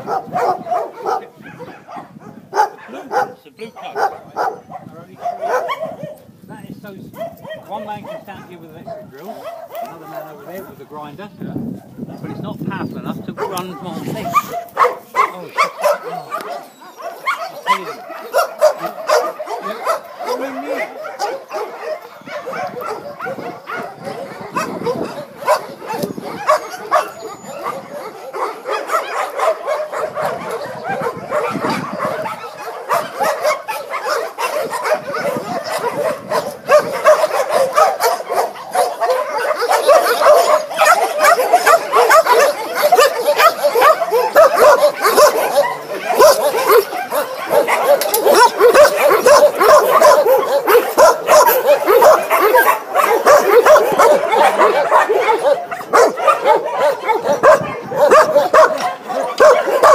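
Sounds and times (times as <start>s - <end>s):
many dogs barking and yelping: 0.0s - 59.9s.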